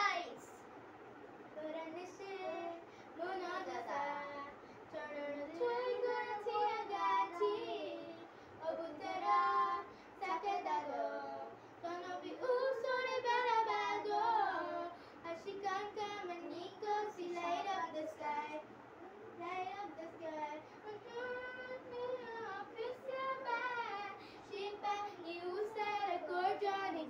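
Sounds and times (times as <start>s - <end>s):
girls singing a pop song: 1.6s - 18.7s, 19.4s - 27.0s.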